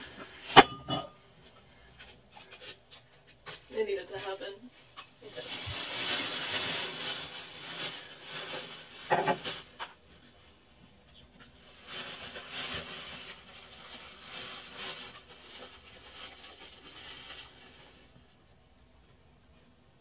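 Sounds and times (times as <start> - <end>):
handling rustling and rubbing: 0.0 - 18.4.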